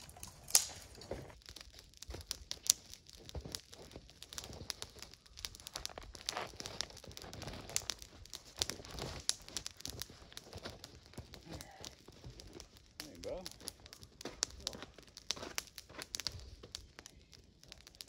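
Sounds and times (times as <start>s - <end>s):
campfire crackling and snapping: 0.0s - 18.0s.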